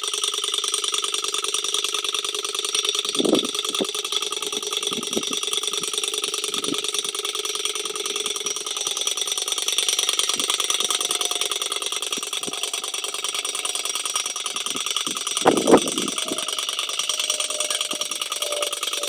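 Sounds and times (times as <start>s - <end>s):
engine mechanical rattle: 0.0s - 19.0s.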